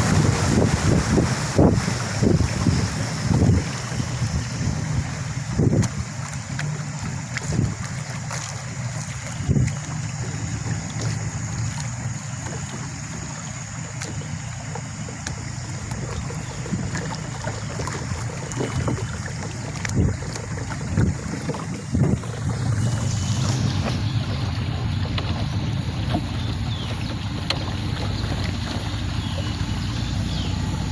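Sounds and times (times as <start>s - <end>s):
boat motor running: 0.0s - 30.9s
wind buffeting microphone: 0.0s - 30.9s.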